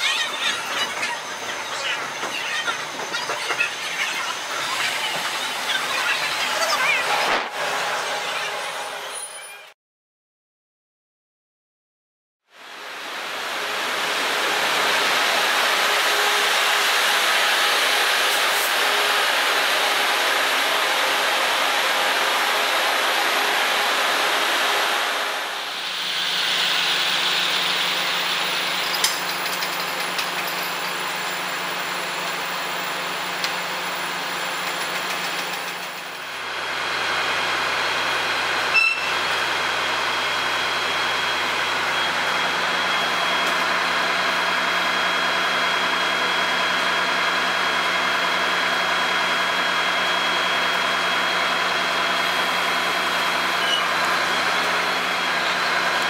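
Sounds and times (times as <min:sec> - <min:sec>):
trains rushing past: 0:00.0 - 0:09.6, 0:12.6 - 0:56.0.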